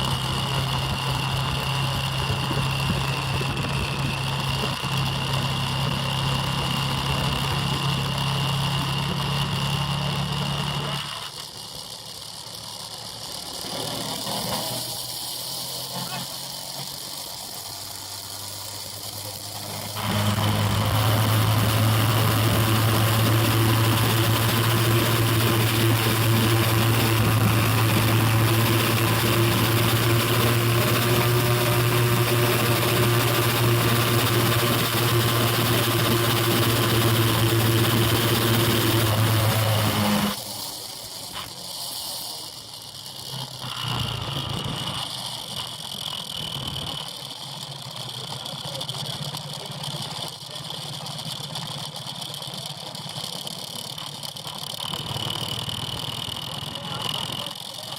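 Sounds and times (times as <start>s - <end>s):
motorbike engine running: 0.0s - 57.9s.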